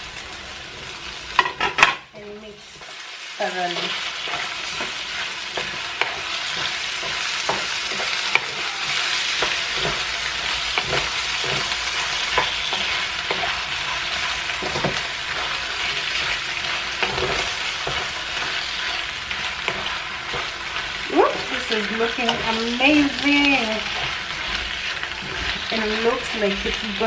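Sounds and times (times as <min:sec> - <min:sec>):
chicken sizzling in a pan: 0:00.0 - 0:27.0
utensil scraping a pan: 0:03.6 - 0:26.8.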